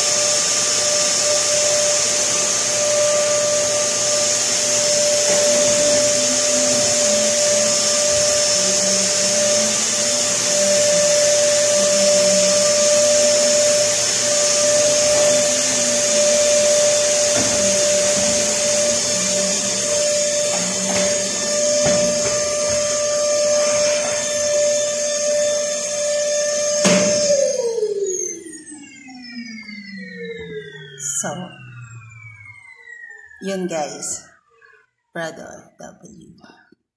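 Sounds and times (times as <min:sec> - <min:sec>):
vacuum cleaner motor whine: 0:00.0 - 0:35.8.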